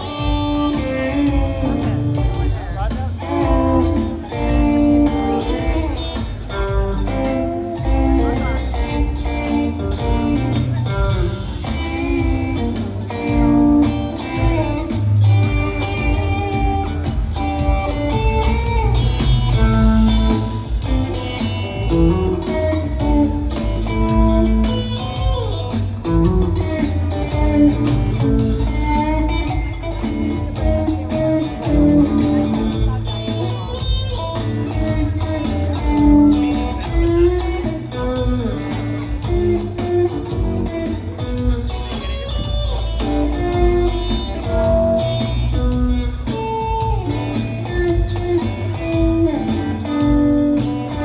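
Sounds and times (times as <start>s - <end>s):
drums: 0.0s - 51.0s
electric bass: 0.0s - 51.0s
electric guitar lines: 0.0s - 51.0s.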